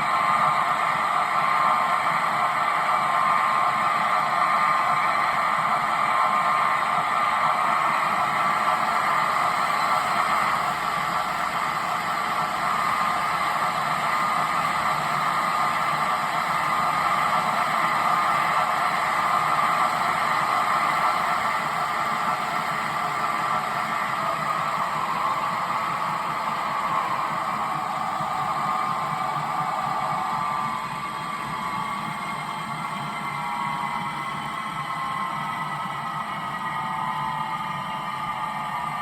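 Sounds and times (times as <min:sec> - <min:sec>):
model locomotive hissing drone: 0:00.0 - 0:39.0.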